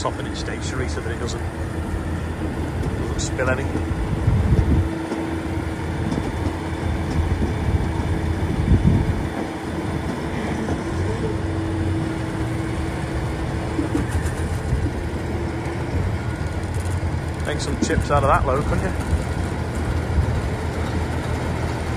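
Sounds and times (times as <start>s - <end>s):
tractor engines running: 0.0s - 21.9s.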